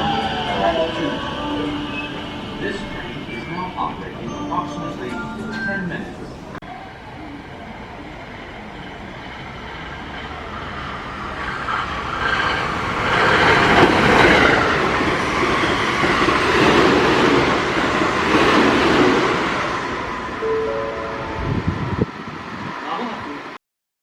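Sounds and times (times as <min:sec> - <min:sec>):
electric train passing: 0:00.0 - 0:23.6.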